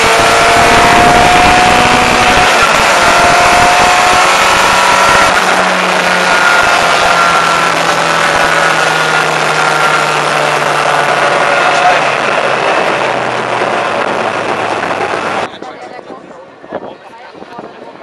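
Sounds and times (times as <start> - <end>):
car engine running hard: 0.0 - 15.5
road and wind noise: 0.0 - 18.0.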